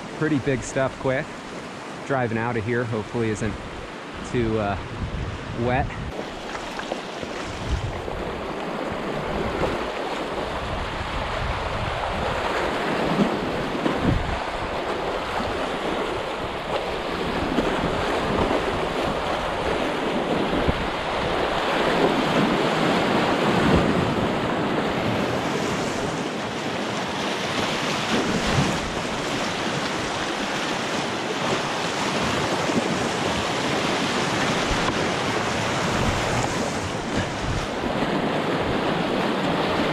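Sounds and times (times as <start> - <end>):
creek water rushing and splashing: 0.0 - 39.9.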